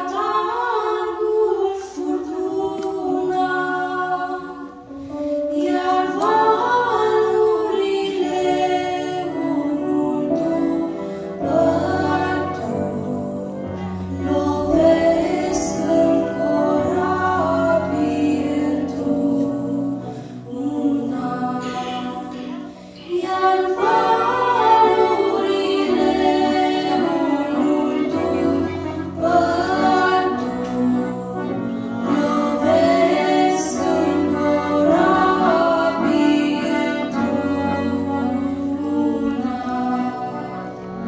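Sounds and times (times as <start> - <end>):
girls singing a hymn: 0.0 - 41.0.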